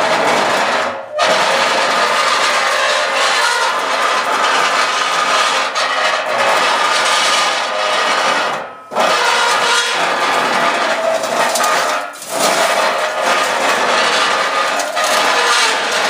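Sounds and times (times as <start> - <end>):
loud rasping rubbing noise: 0.0 - 16.0.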